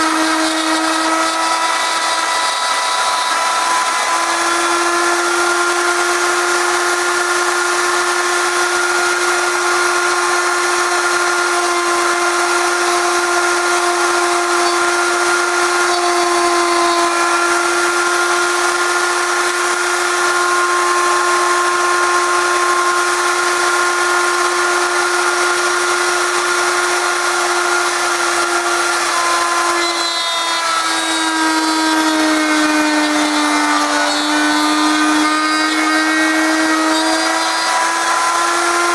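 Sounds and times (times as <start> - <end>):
router cutting wood: 0.0 - 38.9.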